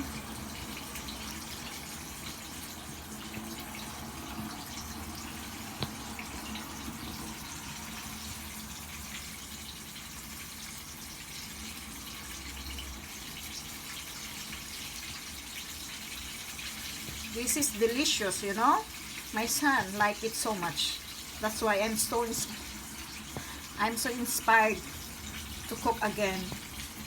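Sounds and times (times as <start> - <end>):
chicken frying in hot oil: 0.0 - 27.0.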